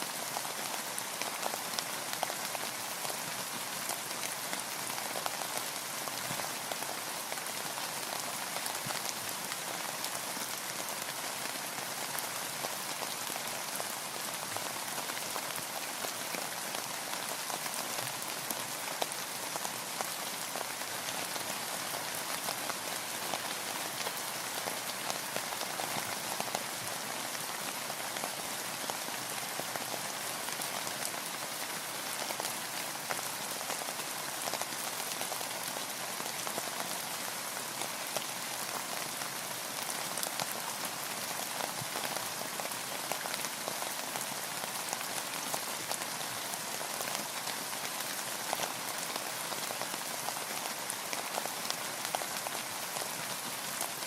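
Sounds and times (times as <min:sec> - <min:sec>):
rain pattering on a boat: 0:00.0 - 0:54.0.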